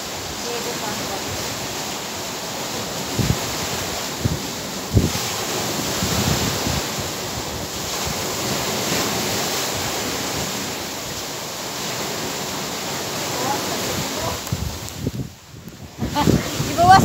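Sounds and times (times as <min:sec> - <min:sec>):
surf washing on shore: 0:00.0 - 0:17.0
wind buffeting microphone: 0:00.0 - 0:17.0.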